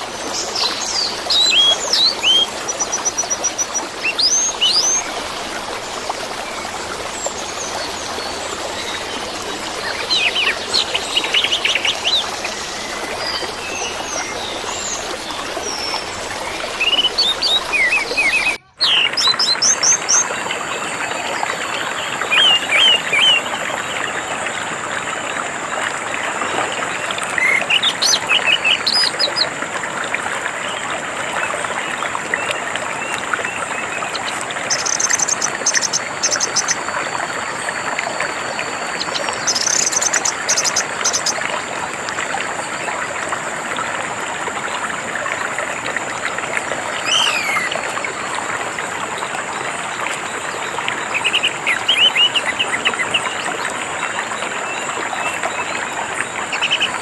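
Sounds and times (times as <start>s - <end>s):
running stream water: 0.0s - 57.0s.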